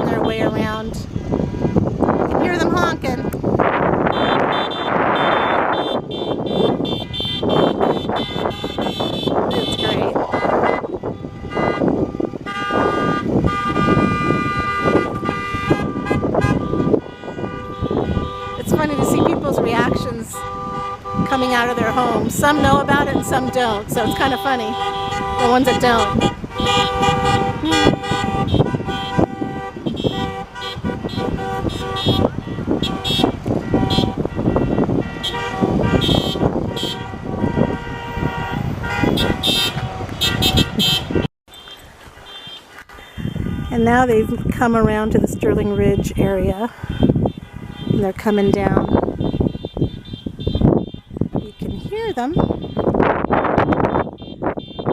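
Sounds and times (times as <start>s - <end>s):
passing cars: 0.0s - 54.9s
wind rumbling on microphone: 0.0s - 54.9s
car horns honking: 1.5s - 54.9s.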